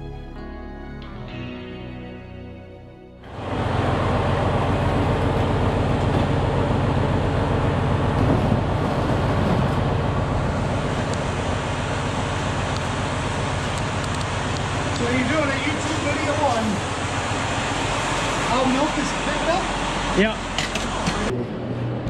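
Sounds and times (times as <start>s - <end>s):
truck diesel engine idling: 3.3s - 21.3s.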